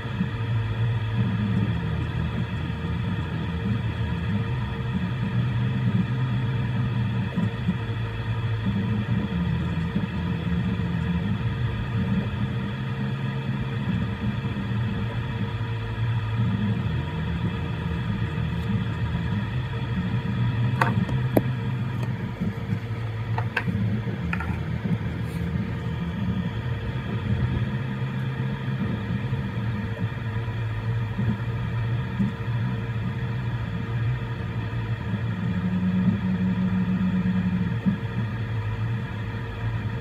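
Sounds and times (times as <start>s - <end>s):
fan hum: 0.0s - 40.0s.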